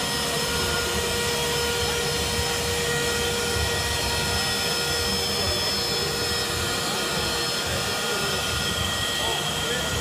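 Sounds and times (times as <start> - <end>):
floor burnisher whining: 0.0 - 10.0.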